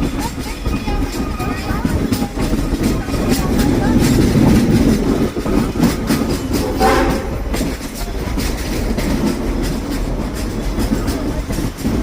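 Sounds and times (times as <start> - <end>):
steam train rumbling: 0.0 - 12.0
wheels clicking over rail joints: 0.0 - 12.0.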